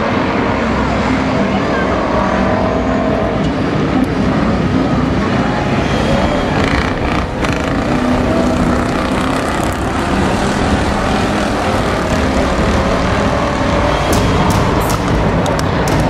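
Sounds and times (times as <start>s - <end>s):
racing car engines droning: 0.0s - 16.0s.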